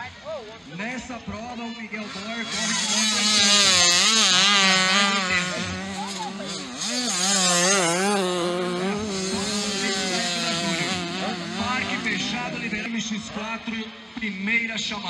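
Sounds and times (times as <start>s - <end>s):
motocross bike engines revving: 1.0s - 14.3s.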